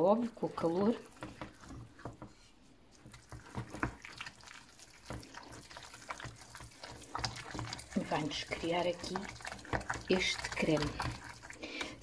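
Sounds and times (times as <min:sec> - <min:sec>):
spoon stirring thick paste: 0:00.0 - 0:12.0
wet squelching: 0:00.4 - 0:12.0.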